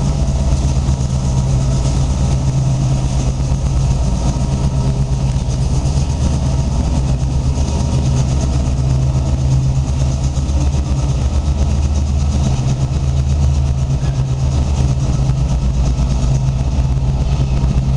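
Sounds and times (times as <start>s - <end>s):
diesel locomotive engine humming: 0.0s - 17.9s.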